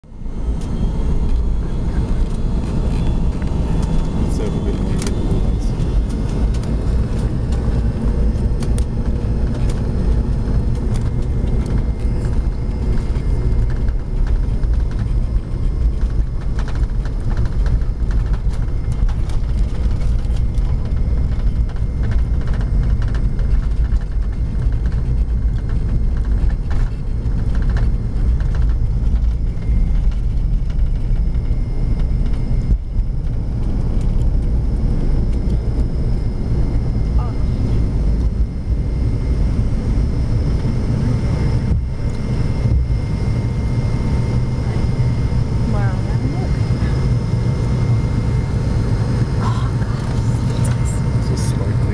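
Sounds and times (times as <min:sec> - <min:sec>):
aircraft cabin engine rumble: 0:00.0 - 0:51.9.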